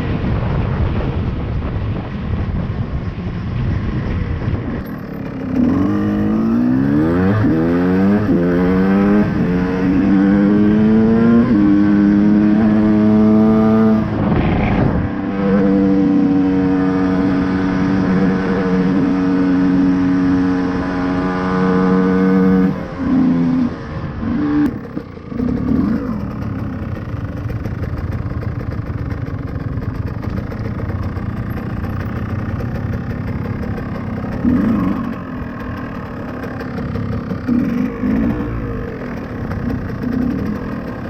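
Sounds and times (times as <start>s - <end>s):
two-stroke engine revving: 4.8s - 41.0s.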